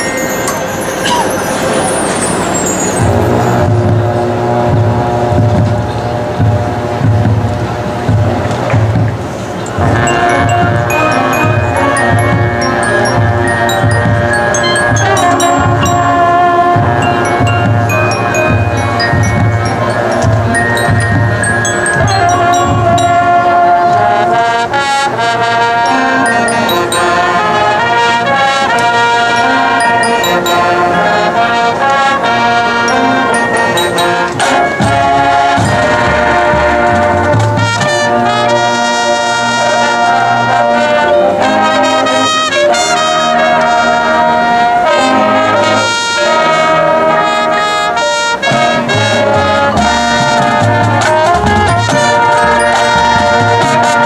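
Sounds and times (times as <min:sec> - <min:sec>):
brass sustained chords: 0:00.0 - 0:54.0
marching band playing: 0:00.0 - 0:54.0.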